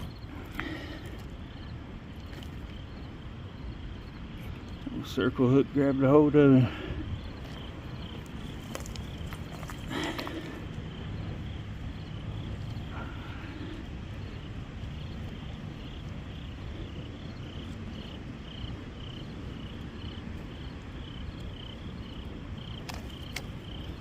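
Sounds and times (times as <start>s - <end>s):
insects chirping: 0.0s - 24.0s
low steady rumble: 0.0s - 24.0s.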